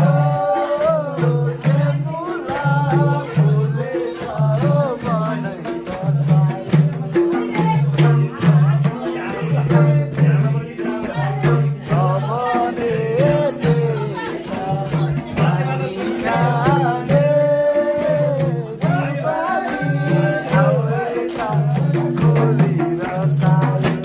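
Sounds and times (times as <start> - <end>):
person singing: 0.0 - 24.0
repeating drum beat: 0.0 - 24.0.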